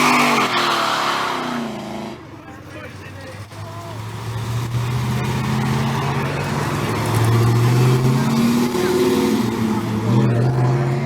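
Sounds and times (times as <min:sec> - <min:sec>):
car engine revving and pulling away: 0:00.0 - 0:11.0.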